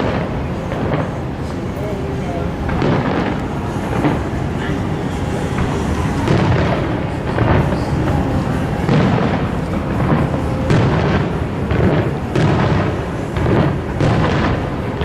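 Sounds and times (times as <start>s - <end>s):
continuous rolling rumble: 0.0s - 15.0s
fireworks booming: 0.0s - 15.0s.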